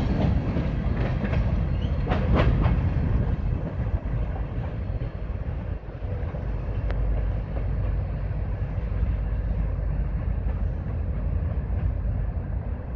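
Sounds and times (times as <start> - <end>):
freight train rumbling: 0.0 - 12.9.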